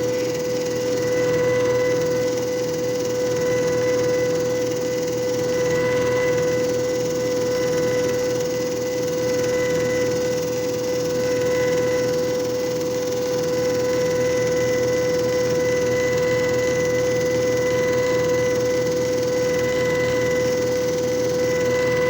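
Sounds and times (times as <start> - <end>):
constant pitched tone: 0.0 - 22.0
machine motor hum: 0.0 - 22.0.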